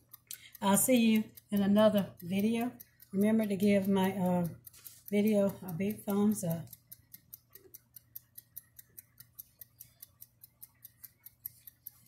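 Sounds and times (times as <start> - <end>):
rapid sharp ticking: 0.0 - 12.0.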